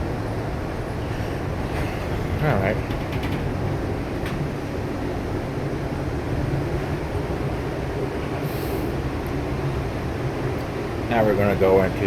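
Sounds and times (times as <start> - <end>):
train car rumble and hum: 0.0 - 12.0.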